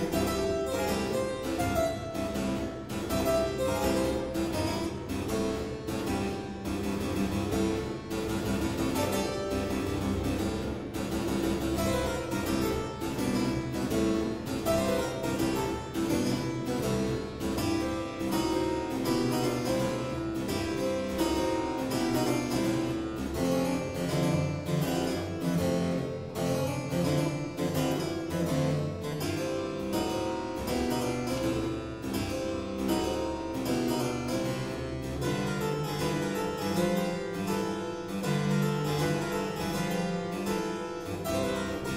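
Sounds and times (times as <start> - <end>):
boogie-woogie harpsichord: 0.0 - 41.9.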